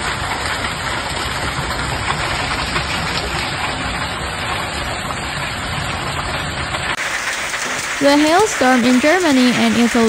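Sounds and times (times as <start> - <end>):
hail pelting on asphalt: 0.0 - 10.0.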